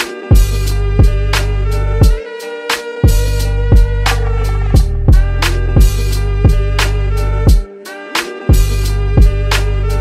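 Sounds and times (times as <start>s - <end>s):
deep bass beat: 0.0s - 2.2s, 3.0s - 7.7s, 8.5s - 10.0s.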